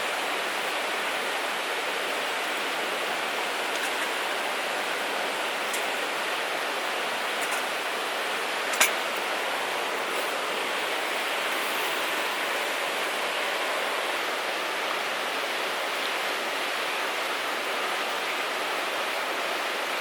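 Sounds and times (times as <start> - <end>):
steady rushing water-like noise: 0.0 - 20.0.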